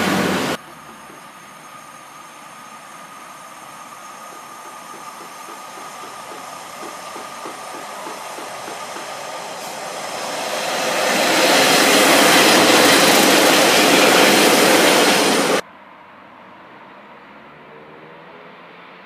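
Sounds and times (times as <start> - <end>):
diesel train passing: 0.0 - 15.6.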